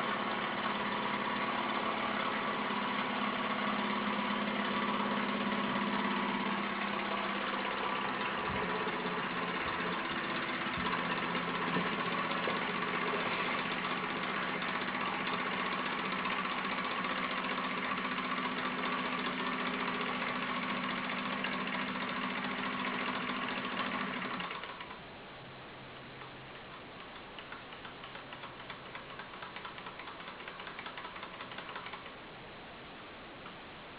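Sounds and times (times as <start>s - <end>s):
fast ticking rattle: 0.0s - 25.0s, 26.2s - 32.2s
model engine humming and clattering: 0.0s - 25.1s, 25.9s - 32.4s.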